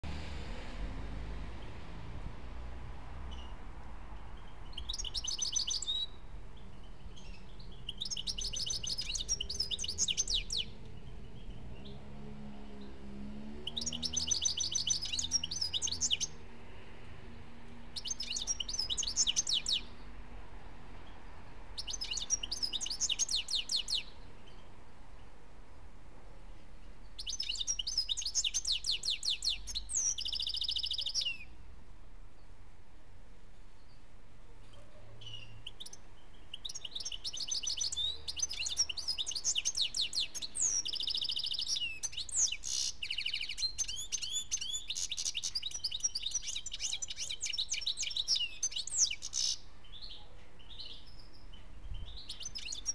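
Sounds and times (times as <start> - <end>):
bird high twittering song: 3.1 - 25.4, 26.5 - 31.6, 33.5 - 52.9.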